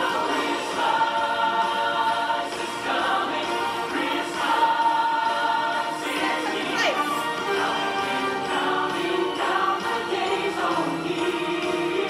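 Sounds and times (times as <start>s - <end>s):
musical accompaniment: 0.0s - 12.0s
recorded choir singing: 0.0s - 12.0s.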